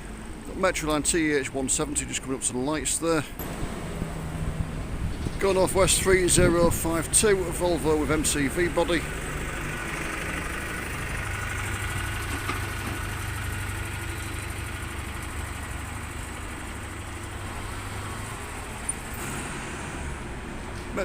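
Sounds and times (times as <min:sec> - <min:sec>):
bus engine running: 0:00.0 - 0:21.0
street traffic: 0:00.0 - 0:21.0.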